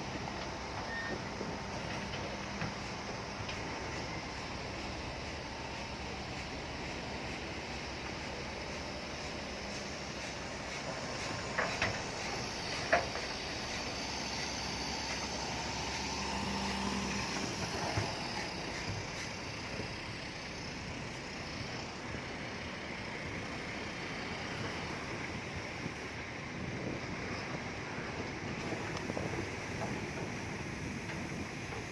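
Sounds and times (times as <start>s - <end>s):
heavy diesel machinery running: 0.0s - 31.9s.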